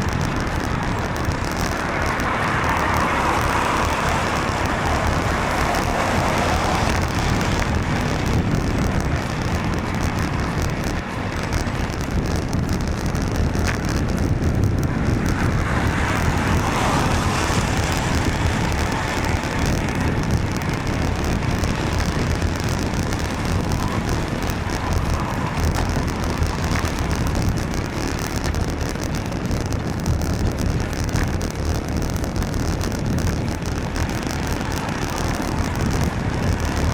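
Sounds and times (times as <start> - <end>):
traffic on wet road: 0.0 - 36.9
vehicles passing: 0.0 - 36.9
wind rumbling on microphone: 0.0 - 36.9.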